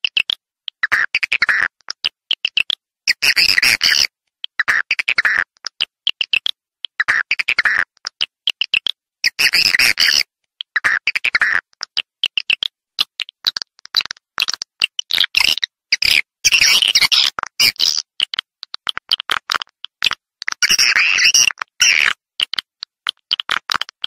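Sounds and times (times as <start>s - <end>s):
bird twittering chirps and clicks: 0.0s - 24.0s.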